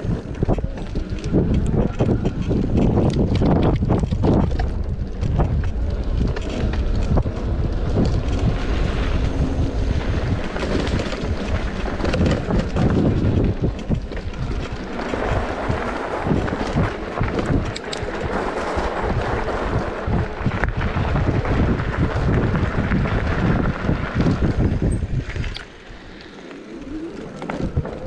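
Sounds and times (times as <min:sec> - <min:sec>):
bike knocks and rattles: 0:00.0 - 0:25.6
wind buffeting microphone: 0:00.0 - 0:28.0.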